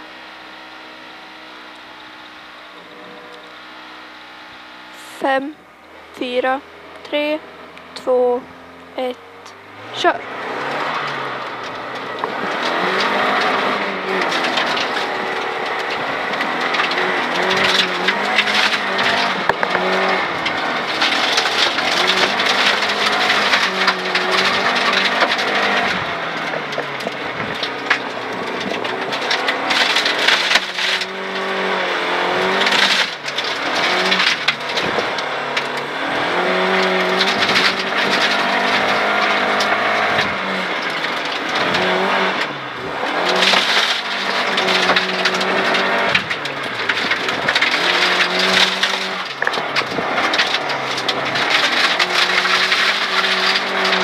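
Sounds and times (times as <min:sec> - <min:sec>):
car engine at full throttle: 0:00.0 - 0:54.0
gravel rattling against underbody: 0:05.3 - 0:54.0.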